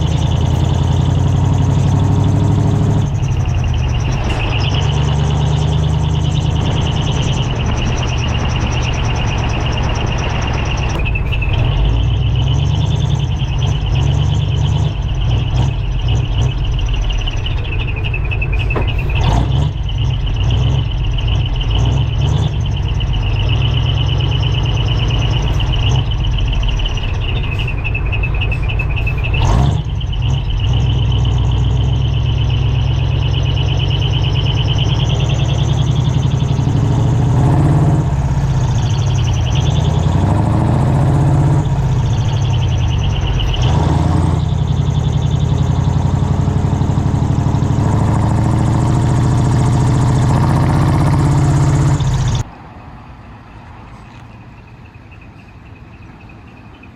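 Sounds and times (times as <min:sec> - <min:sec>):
diesel truck engine revving: 0:00.0 - 0:56.9.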